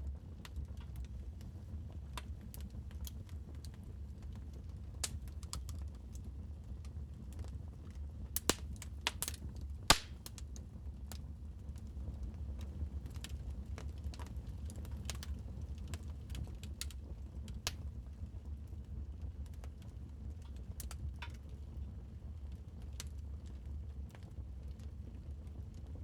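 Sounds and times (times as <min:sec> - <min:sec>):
wood fire crackling: 0:00.1 - 0:25.8.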